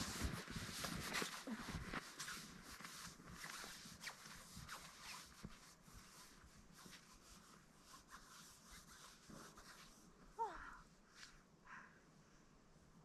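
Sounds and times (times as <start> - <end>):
soft hiss: 0.0 - 13.0.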